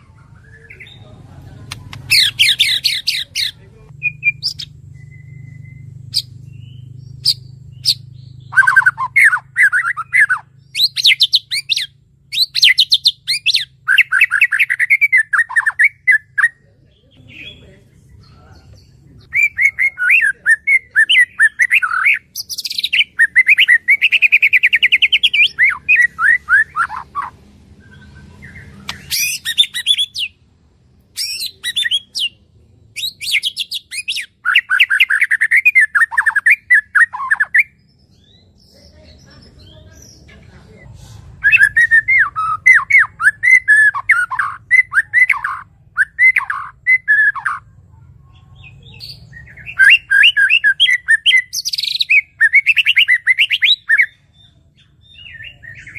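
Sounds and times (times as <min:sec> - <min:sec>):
faint low hum: 0:00.0 - 0:52.0
birds chattering song: 0:00.0 - 0:55.9.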